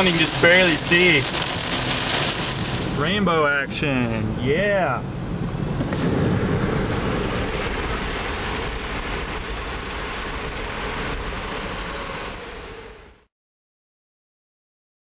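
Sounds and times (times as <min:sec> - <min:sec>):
car road and wind noise: 0:00.0 - 0:13.3.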